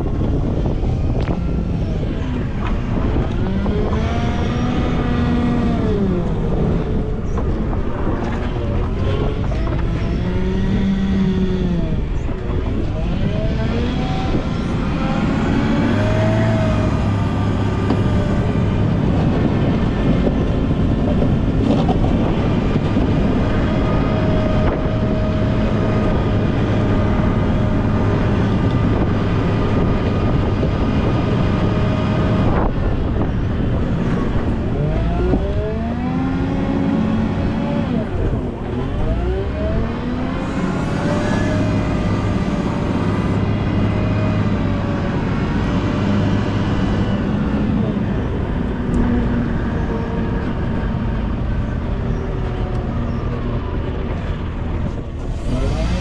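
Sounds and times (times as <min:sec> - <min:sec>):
wheel loader diesel engine revving: 0:00.0 - 0:56.0.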